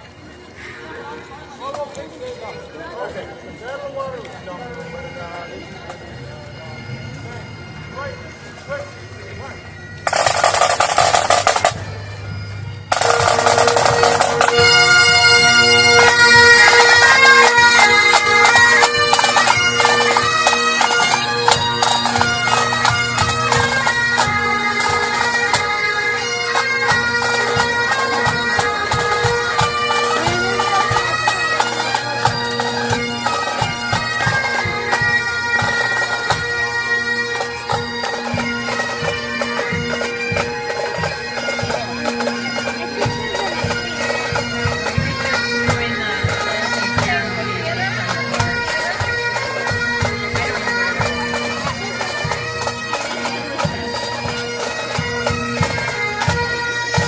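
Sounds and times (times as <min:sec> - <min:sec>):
bagpipes playing a tune: 0:00.0 - 0:57.0.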